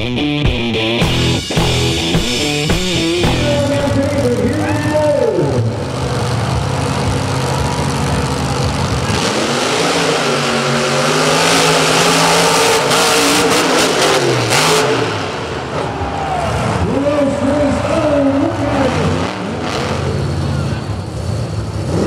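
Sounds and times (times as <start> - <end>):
monster truck engines revving: 0.0 - 22.0.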